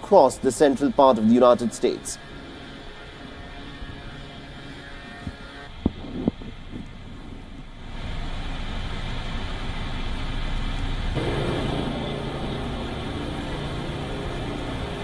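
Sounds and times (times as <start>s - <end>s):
motor vehicle traffic rumble: 0.0s - 15.0s.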